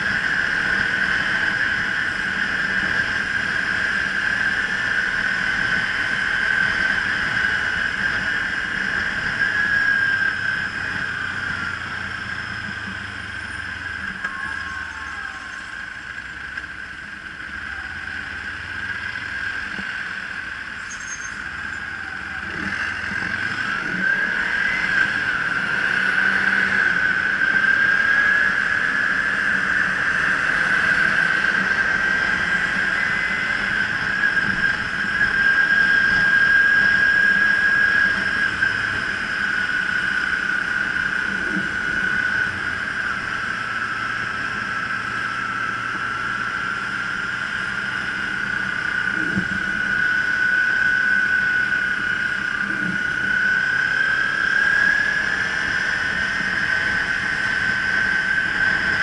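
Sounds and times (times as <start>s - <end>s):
high-pitched whine: 0.0s - 59.0s
motorcycle engine cruising: 0.0s - 59.0s.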